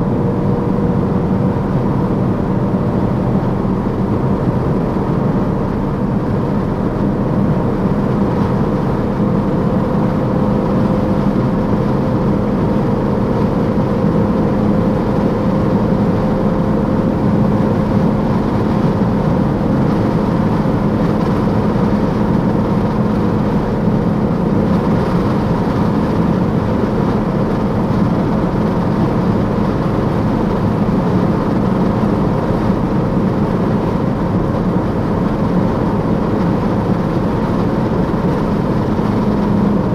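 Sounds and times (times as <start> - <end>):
car engine driving steadily: 0.0 - 39.9
road and wind noise: 0.0 - 39.9.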